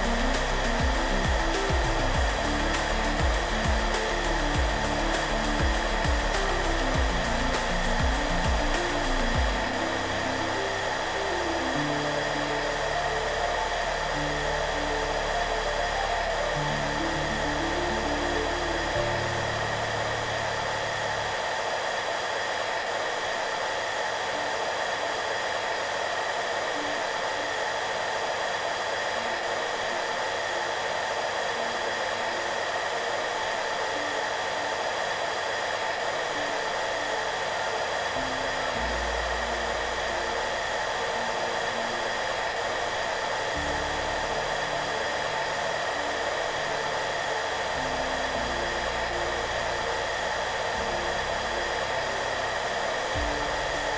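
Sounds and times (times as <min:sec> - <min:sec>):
soft background music: 0:00.0 - 0:22.5, 0:26.4 - 0:53.9
hair dryer running: 0:00.0 - 0:53.9.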